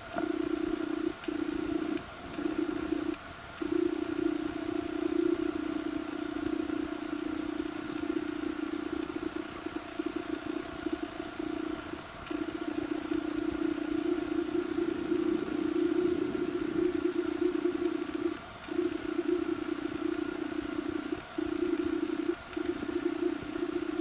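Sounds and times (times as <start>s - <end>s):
low mechanical drone: 0.0s - 24.0s.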